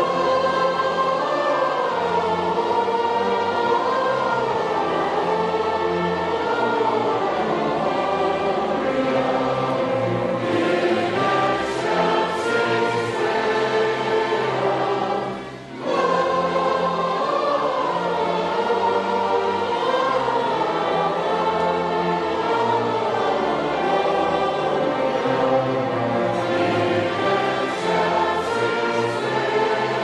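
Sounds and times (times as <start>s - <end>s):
choir singing: 0.0s - 30.0s.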